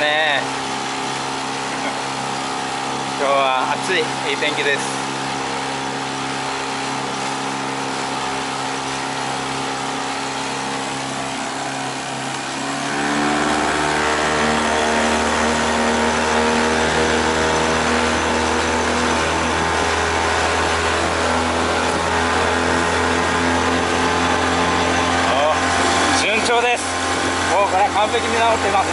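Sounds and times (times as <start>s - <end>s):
boat outboard motor running: 0.0s - 28.9s.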